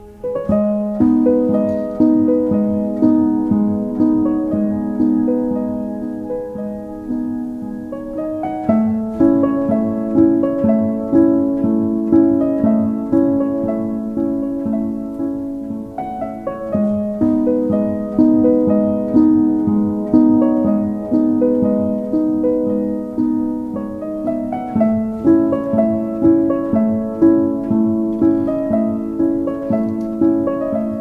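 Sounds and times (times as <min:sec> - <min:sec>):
gentle plucked melody: 0:00.0 - 0:31.0.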